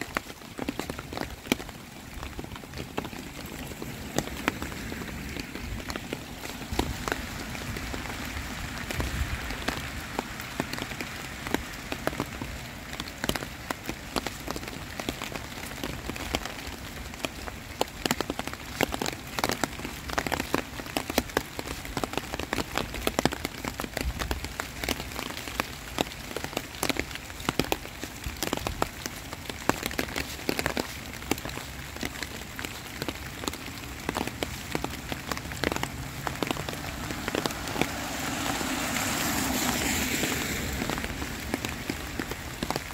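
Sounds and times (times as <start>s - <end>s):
heavy rain hissing: 0.0s - 22.6s, 24.8s - 42.9s
close raindrop hits: 0.0s - 42.9s.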